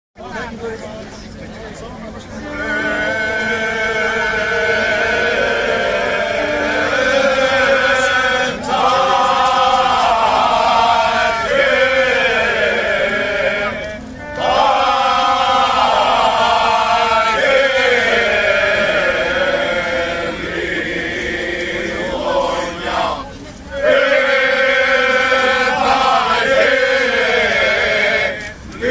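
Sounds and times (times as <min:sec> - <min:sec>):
group of men singing unaccompanied: 0:02.4 - 0:28.9.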